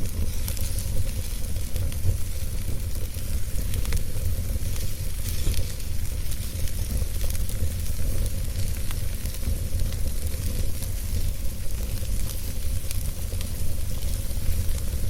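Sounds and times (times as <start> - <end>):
burning wood crackling and popping: 0.0 - 15.0
flame rumbling: 0.0 - 15.0.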